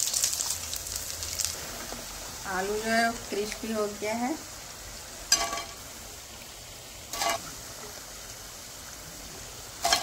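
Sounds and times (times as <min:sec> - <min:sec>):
potato wedges frying in oil: 0:00.0 - 0:10.0.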